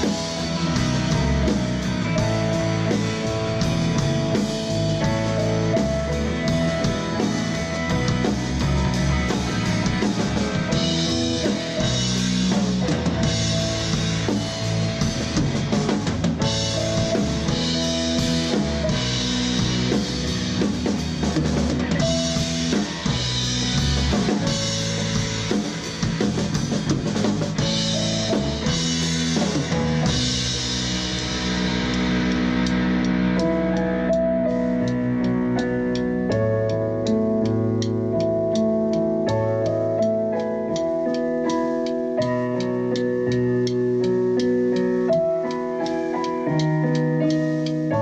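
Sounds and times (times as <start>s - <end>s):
bass drum and snare: 0.0s - 40.9s
rock band playing: 0.0s - 48.0s.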